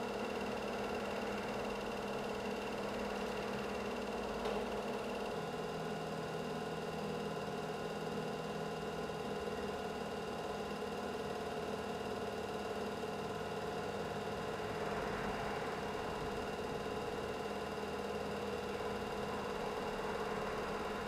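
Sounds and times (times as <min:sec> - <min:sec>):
film projector whirring: 0:00.0 - 0:21.0.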